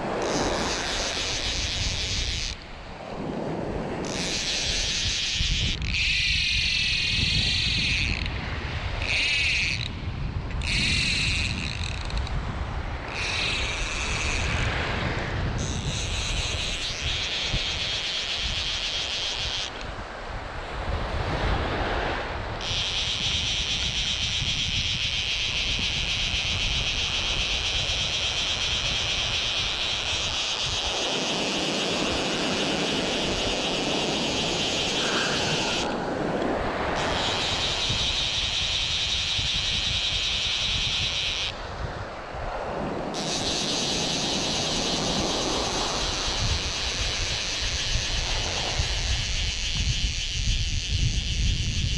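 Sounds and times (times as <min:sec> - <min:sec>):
waves washing: 0:00.0 - 0:07.1, 0:08.3 - 0:49.6
wind on microphone: 0:00.0 - 0:51.9
fishing reel drag buzzing: 0:00.1 - 0:02.6, 0:04.0 - 0:08.4, 0:09.0 - 0:12.4, 0:13.1 - 0:14.8, 0:15.6 - 0:19.9, 0:22.6 - 0:41.6, 0:43.1 - 0:51.9.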